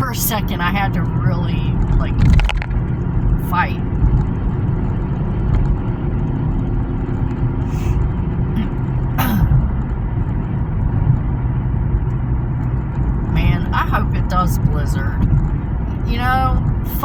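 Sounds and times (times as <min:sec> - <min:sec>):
car cabin road and engine rumble: 0:00.0 - 0:17.0
gusting wind against car: 0:00.0 - 0:17.0.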